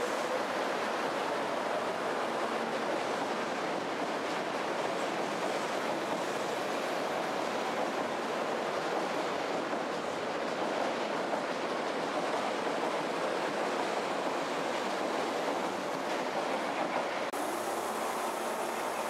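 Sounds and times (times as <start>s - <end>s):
subway train rolling: 0.0s - 19.0s.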